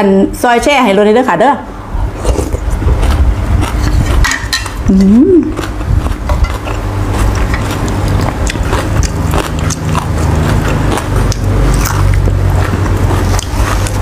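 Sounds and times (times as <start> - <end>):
steady low rumble: 0.2 - 14.0
chewing and eating: 2.2 - 14.0.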